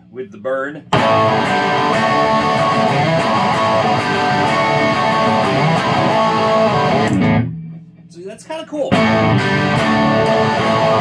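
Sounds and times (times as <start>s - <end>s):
distorted electric guitar chords: 0.9s - 8.1s, 8.9s - 11.0s.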